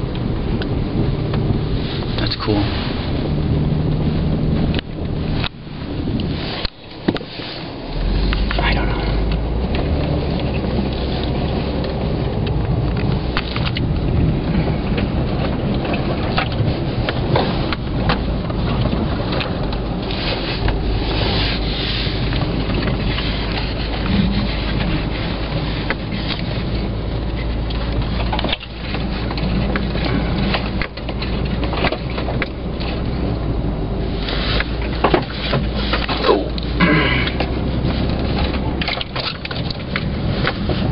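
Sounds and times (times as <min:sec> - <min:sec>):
car engine and tyres droning: 0:00.0 - 0:40.9.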